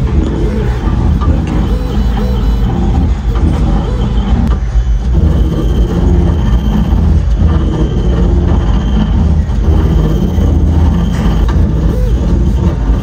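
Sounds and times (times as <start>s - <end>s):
engraving machine rumbling: 0.0s - 13.0s.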